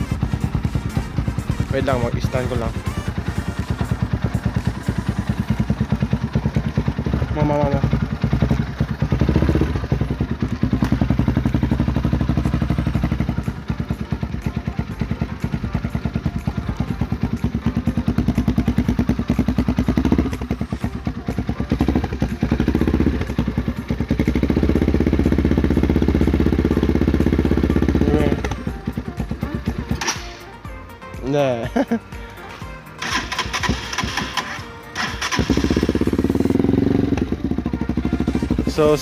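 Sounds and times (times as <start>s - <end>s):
motorcycle engine pulsing exhaust: 0.0s - 30.9s, 33.0s - 39.0s.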